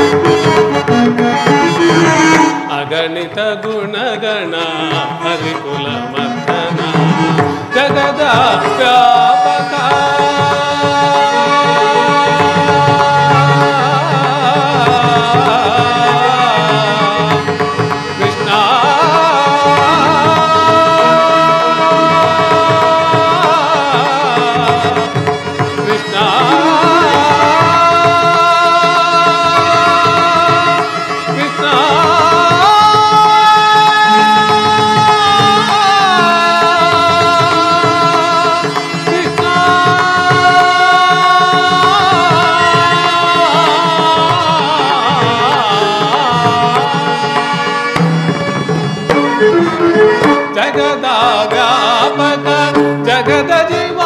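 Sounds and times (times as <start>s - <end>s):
instrumental accompaniment: 0.0s - 54.0s
person singing ornamented notes: 0.0s - 54.0s
tabla: 0.0s - 54.0s.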